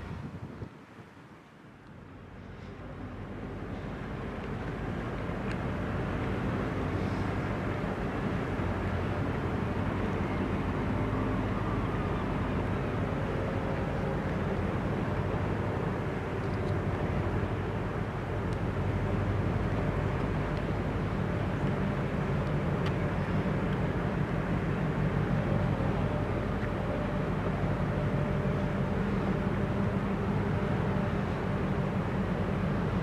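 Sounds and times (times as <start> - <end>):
ship engines rumbling: 2.0 - 33.0.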